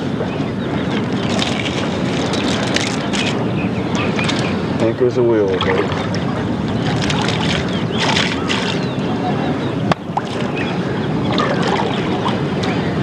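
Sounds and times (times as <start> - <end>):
river water: 0.0 - 13.0
wind: 0.0 - 13.0.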